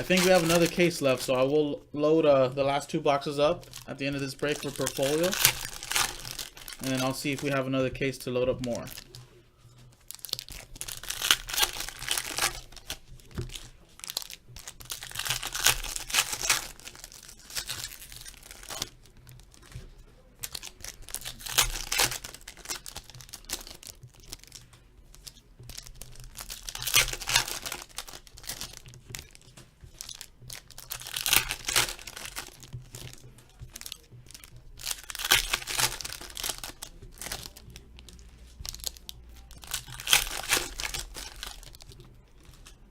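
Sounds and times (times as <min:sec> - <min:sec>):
wrapper tearing and crinkling: 0:00.0 - 0:01.5, 0:02.6 - 0:09.3, 0:10.0 - 0:42.9
quiet rustling and handling: 0:00.0 - 0:42.9.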